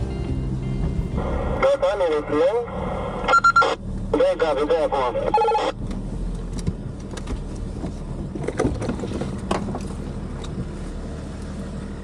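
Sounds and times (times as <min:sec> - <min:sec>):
engine idling low hum: 0:00.0 - 0:12.0.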